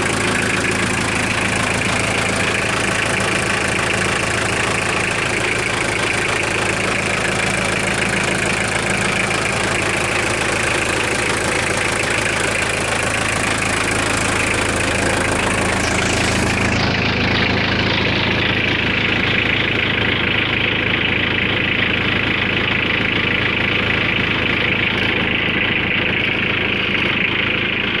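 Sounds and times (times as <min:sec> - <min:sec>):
truck engine idling with knock: 0:00.0 - 0:28.0.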